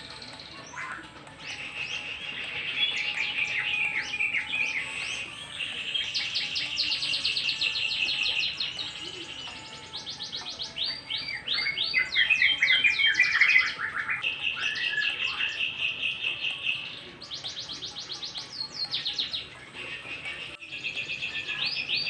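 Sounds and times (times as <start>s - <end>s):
songbird whistling and trilling: 0.0s - 22.0s.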